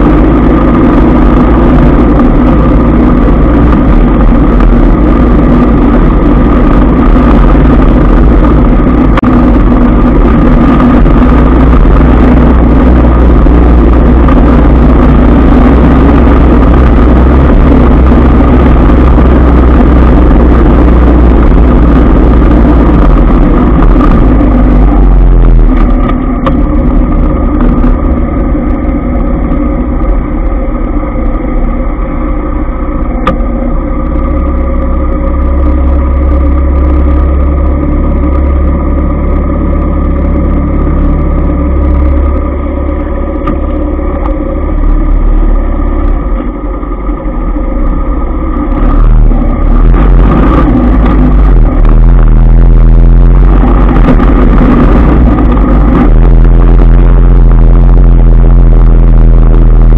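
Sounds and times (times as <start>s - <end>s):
motorbike engine running: 0.0s - 59.9s
traffic hum: 0.0s - 59.9s
wind rumbling on microphone: 0.0s - 59.9s.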